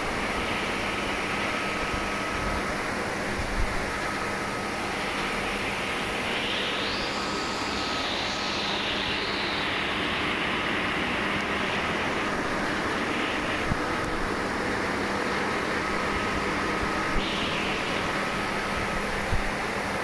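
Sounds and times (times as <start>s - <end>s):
air hissing: 0.0s - 20.0s
faint steady whine: 0.0s - 20.0s
machine humming: 0.0s - 20.0s.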